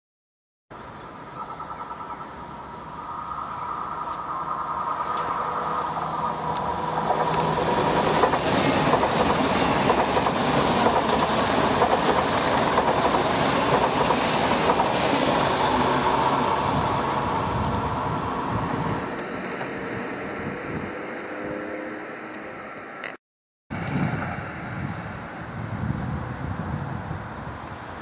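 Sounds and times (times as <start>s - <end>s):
high-speed train passing: 1.1s - 23.1s, 23.7s - 28.0s.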